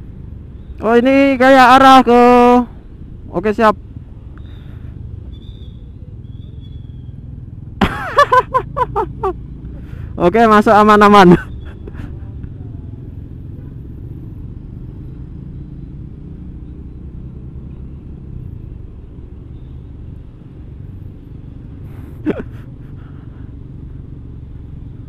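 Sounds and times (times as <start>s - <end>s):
scooter engine at low speed: 0.0s - 25.0s
wind and road noise: 0.0s - 25.0s.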